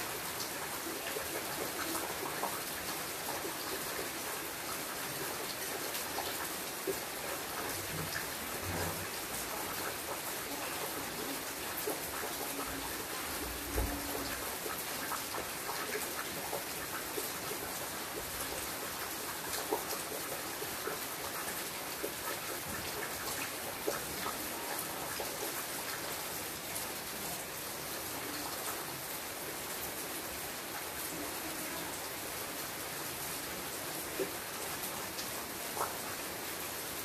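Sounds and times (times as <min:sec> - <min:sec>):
rain falling on foliage: 0:00.0 - 0:37.0.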